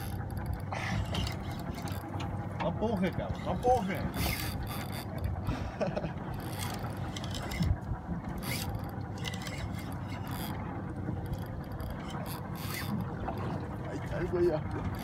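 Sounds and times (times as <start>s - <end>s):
fishing reel gears whirring: 0.0s - 15.0s
steady low rumble: 0.0s - 15.0s.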